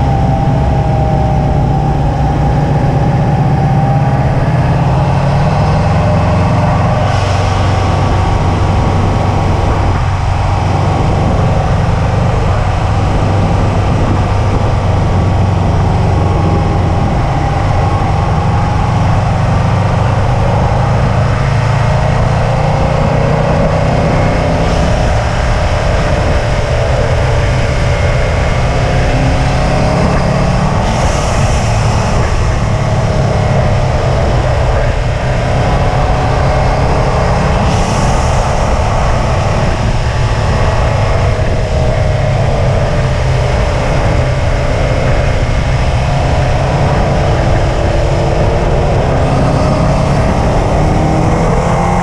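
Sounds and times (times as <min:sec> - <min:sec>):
car engine running: 0:00.0 - 0:52.0
road and drivetrain hum: 0:00.0 - 0:52.0.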